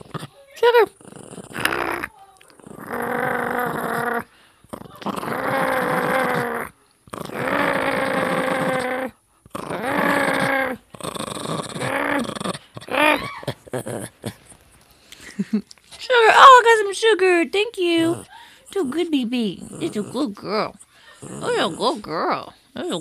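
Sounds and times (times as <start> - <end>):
small dog growling: 0.0 - 14.8, 17.8 - 23.0.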